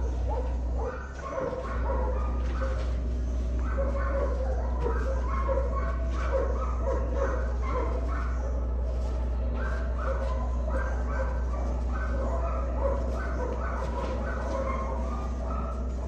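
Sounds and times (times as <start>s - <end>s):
dogs barking and yelping: 0.0s - 16.0s
steady low hum: 0.0s - 16.0s.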